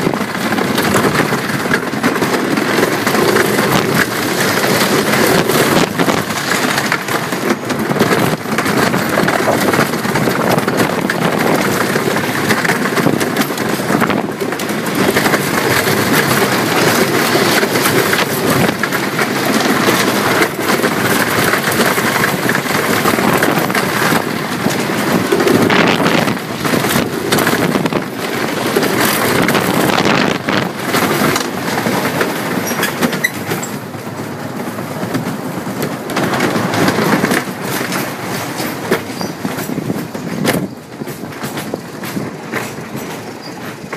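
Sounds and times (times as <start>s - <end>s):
roller coaster wheels rattling: 0.0s - 43.9s.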